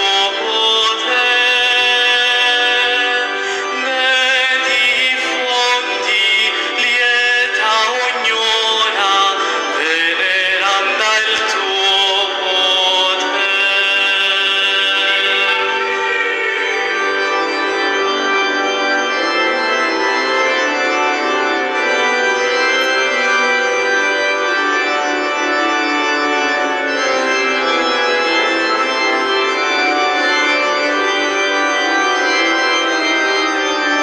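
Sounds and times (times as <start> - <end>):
church organ playing chords: 0.0 - 34.0.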